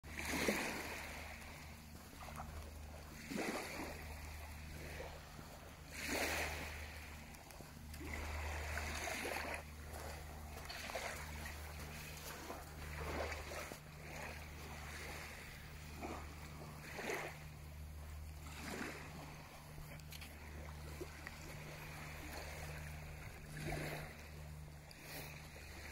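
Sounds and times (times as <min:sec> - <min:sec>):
small waves lapping on shore: 0:00.0 - 0:25.9
steady low rumble: 0:00.1 - 0:25.9.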